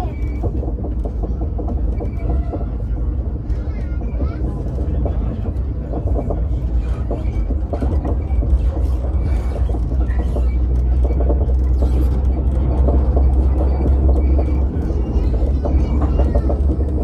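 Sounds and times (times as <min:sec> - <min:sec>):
passenger train rumble: 0:00.0 - 0:17.0.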